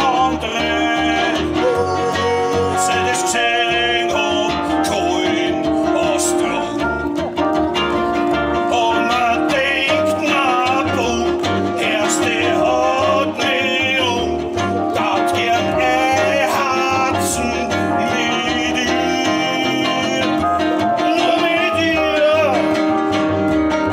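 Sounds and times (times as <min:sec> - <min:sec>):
man singing into microphone: 0:00.0 - 0:07.2, 0:08.5 - 0:23.0
guitar: 0:00.0 - 0:23.9
plucked double bass: 0:00.0 - 0:23.9.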